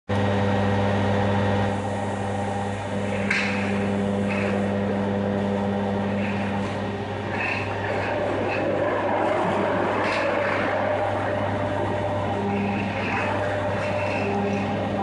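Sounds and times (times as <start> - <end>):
machine electric hum: 0.1 - 15.0.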